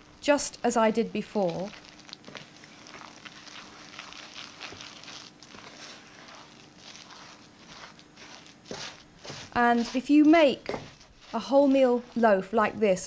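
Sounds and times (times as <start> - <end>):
spoon scraping dough in glass bowl: 1.4 - 12.8.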